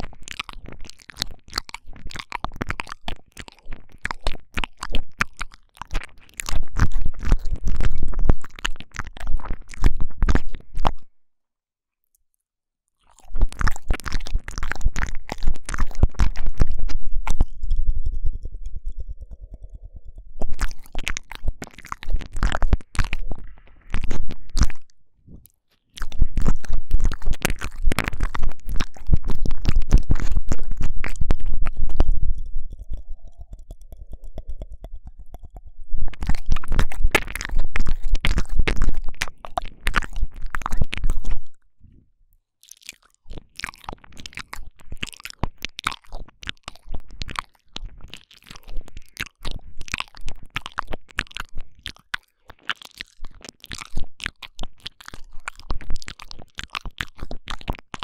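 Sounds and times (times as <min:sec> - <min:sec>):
tongue clicks and licking: 0:00.0 - 0:11.1, 0:13.0 - 0:41.6, 0:42.6 - 0:58.0
wet mouth sounds: 0:00.0 - 0:11.1, 0:13.0 - 0:42.0, 0:42.6 - 0:58.0.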